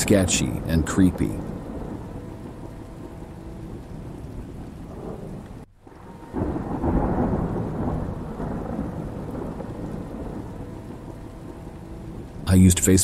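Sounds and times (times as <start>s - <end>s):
low thunder rumble: 0.0s - 12.8s
steady rain: 0.0s - 13.0s.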